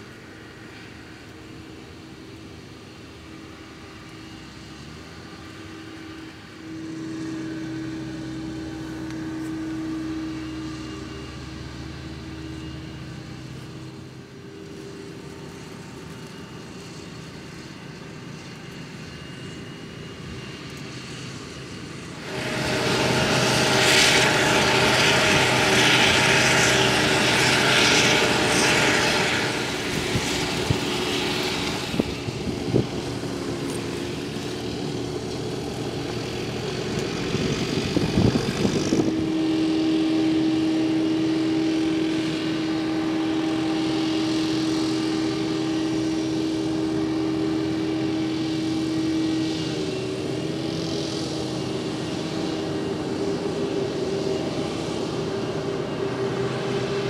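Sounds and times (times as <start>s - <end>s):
forage harvester engine and machinery hum: 0.0s - 57.0s
high whine: 0.0s - 57.0s.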